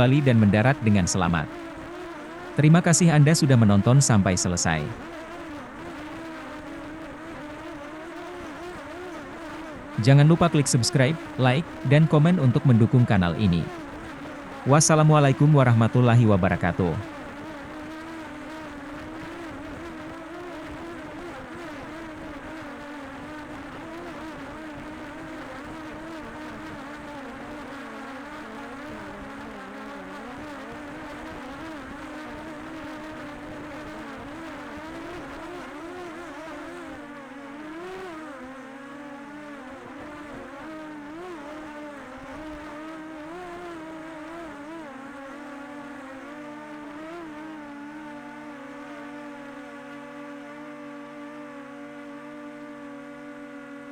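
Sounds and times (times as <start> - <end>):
drone propellers humming: 0.0 - 51.6.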